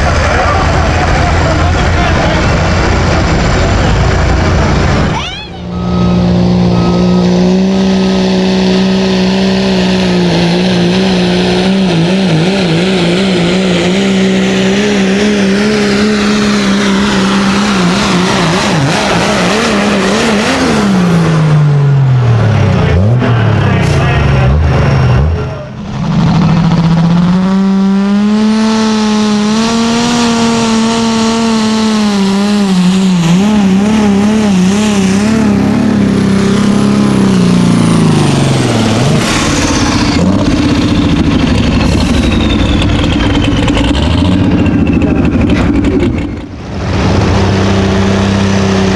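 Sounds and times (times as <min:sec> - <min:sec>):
heavy engine running hard: 0:00.0 - 0:48.9.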